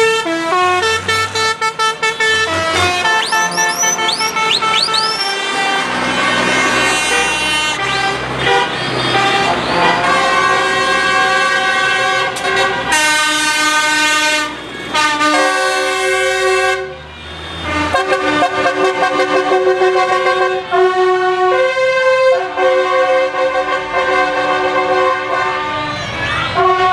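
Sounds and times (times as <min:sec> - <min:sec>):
tractor horns honking: 0:00.0 - 0:26.9.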